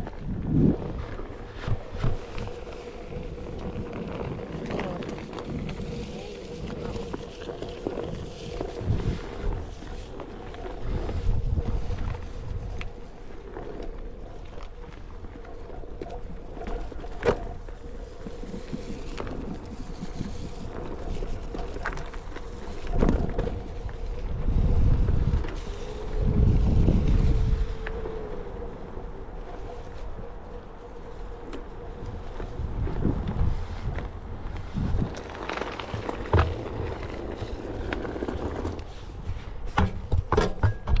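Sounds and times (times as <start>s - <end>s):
skateboard rolling over gravel: 0.0s - 41.0s
wind buffeting microphone: 0.0s - 41.0s.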